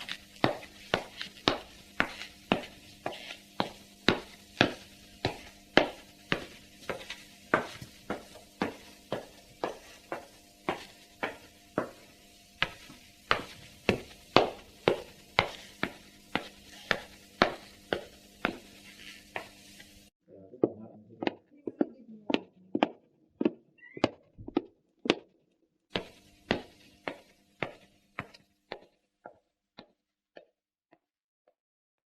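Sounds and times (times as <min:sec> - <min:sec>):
footsteps of dress shoes indoors: 0:00.0 - 0:31.1.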